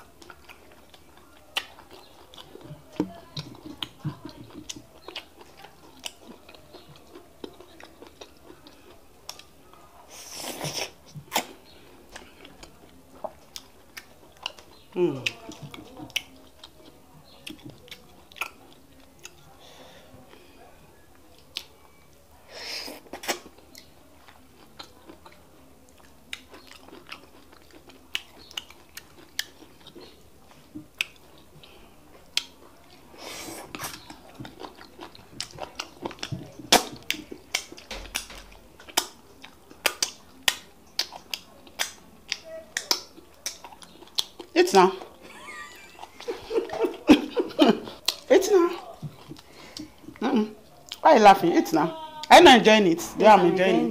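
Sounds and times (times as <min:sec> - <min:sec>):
wet chewing with lip smacks: 0:00.0 - 0:19.6, 0:22.9 - 0:45.2, 0:45.9 - 0:51.0.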